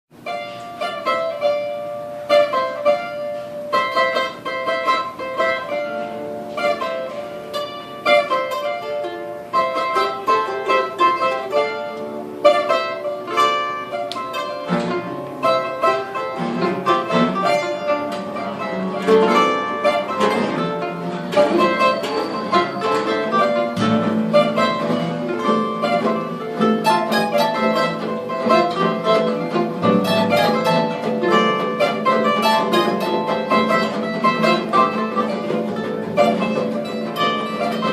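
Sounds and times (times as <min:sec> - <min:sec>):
plucked string instrument notes: 0:00.1 - 0:37.9.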